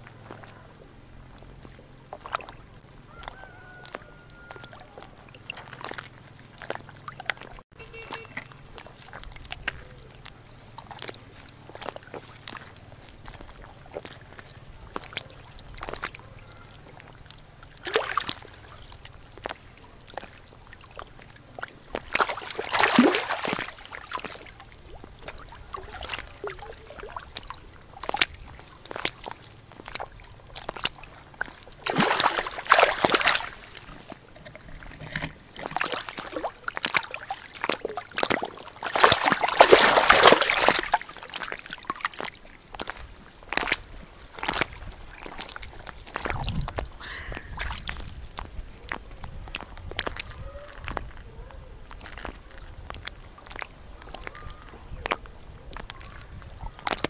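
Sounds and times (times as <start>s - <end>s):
water dripping: 0.0s - 51.2s
fish thrashing in water: 0.0s - 57.0s.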